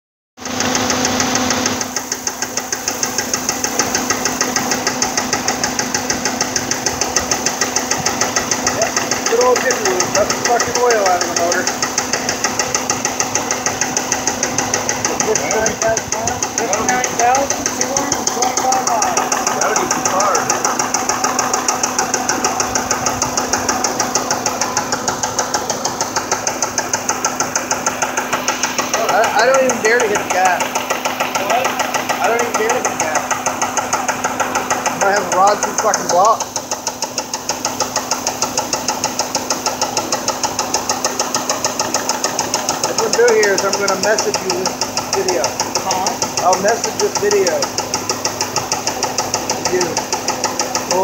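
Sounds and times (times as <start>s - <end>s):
car engine idling with knock: 0.4s - 51.0s.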